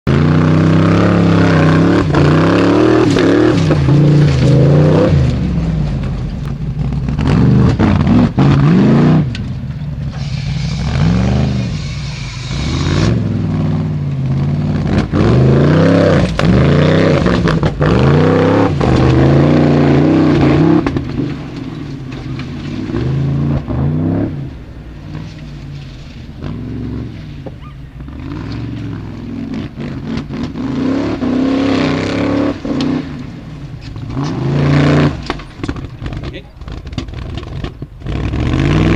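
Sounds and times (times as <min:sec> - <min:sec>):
race car engine revving: 0:00.1 - 0:38.9.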